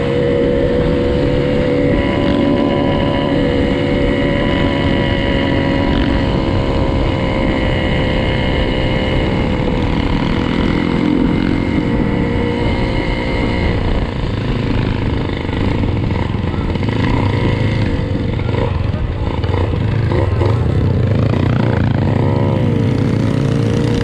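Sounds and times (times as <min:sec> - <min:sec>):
motorcycle engine cruising: 0:00.0 - 0:24.0
wind rumble on microphone: 0:00.0 - 0:24.0.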